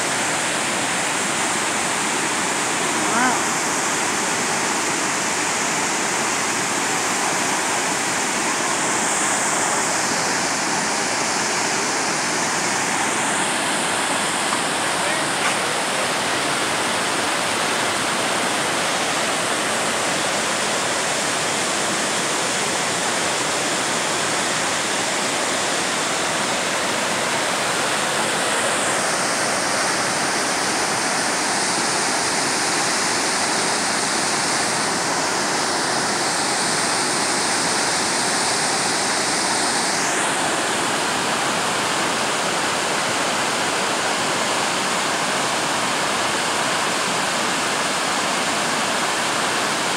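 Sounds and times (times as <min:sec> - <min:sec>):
rushing waterfall: 0:00.0 - 0:49.9.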